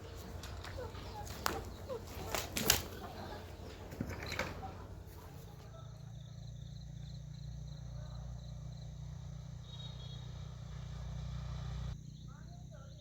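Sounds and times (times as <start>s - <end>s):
insects chirping: 0.0s - 13.0s
steady low hum: 0.0s - 13.0s.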